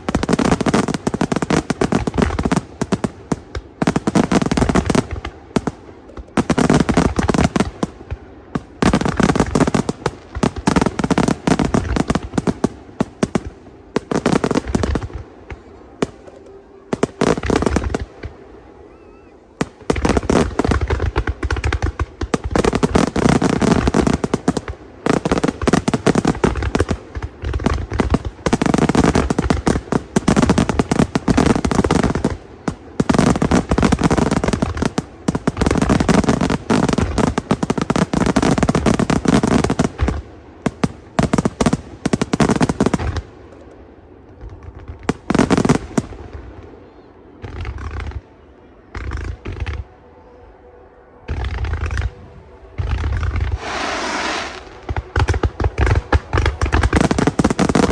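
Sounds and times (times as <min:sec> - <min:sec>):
fireworks bangs: 0:00.0 - 0:50.4, 0:51.2 - 0:57.9
fireworks crackling: 0:00.0 - 0:57.9.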